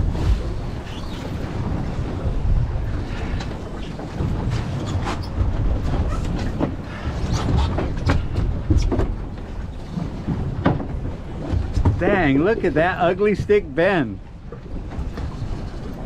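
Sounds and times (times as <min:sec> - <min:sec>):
waves around a boat: 0:00.0 - 0:16.0
wind: 0:00.0 - 0:16.0.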